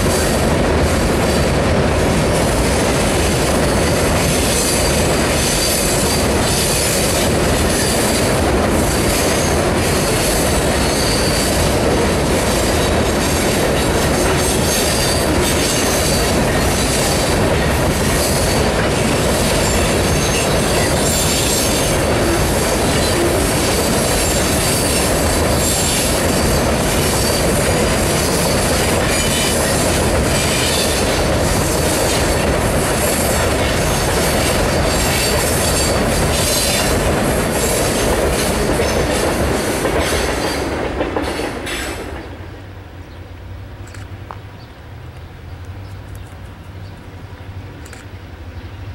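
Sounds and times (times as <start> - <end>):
freight train wheels rolling on rails: 0.0 - 48.9.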